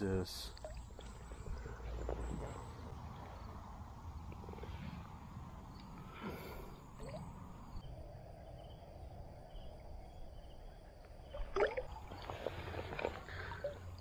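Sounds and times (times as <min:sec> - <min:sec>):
faint water movement: 0:00.0 - 0:14.0.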